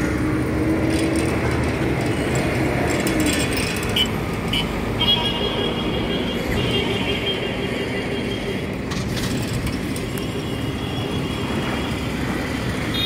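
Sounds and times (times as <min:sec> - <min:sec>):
motorcycle and scooter traffic: 0:00.0 - 0:13.0.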